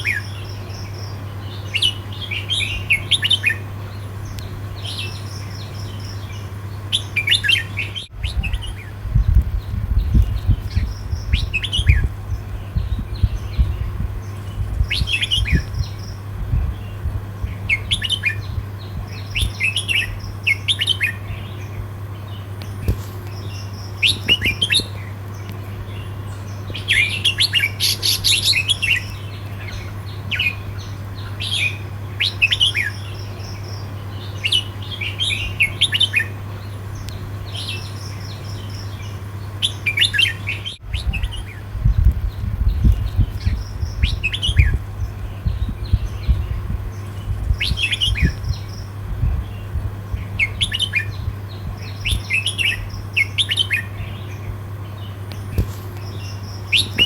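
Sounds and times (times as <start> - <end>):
bird singing whistled notes: 0.0 - 3.6, 4.2 - 25.1, 25.9 - 54.4, 55.0 - 57.0
steady low hum: 0.0 - 57.0.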